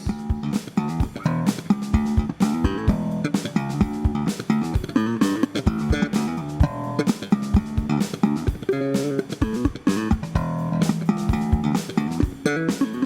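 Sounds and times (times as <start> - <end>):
plucked electric bass notes: 0.0 - 13.0.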